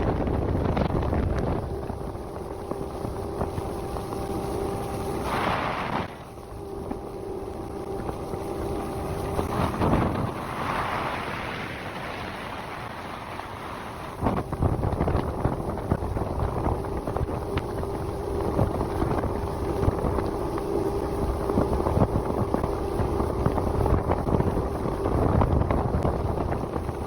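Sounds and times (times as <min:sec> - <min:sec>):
boat motor hum: 0:00.0 - 0:27.0
wind on microphone: 0:00.0 - 0:27.0.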